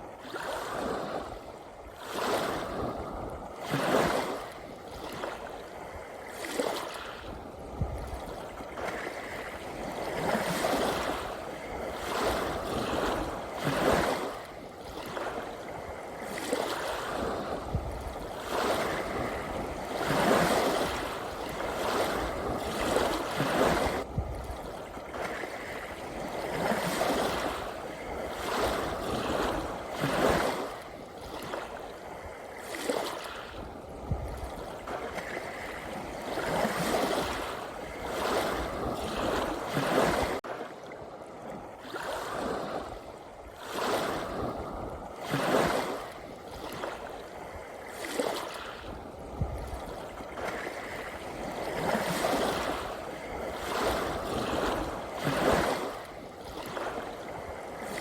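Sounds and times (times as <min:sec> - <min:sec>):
sea waves lapping: 0:00.0 - 0:58.0.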